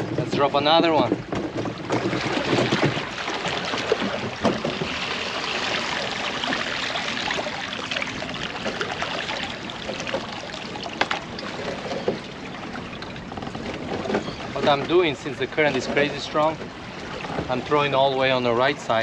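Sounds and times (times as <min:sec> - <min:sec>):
water sloshing and lapping: 0:00.0 - 0:19.0.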